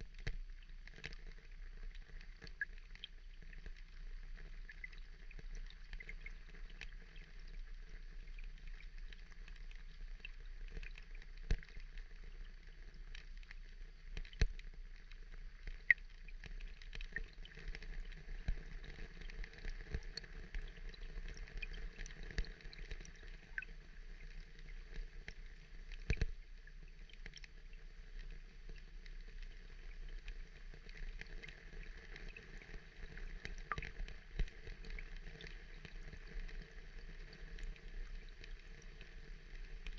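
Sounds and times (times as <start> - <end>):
soft water wash: 0.0 - 39.9
water clicks and drips: 0.0 - 39.9.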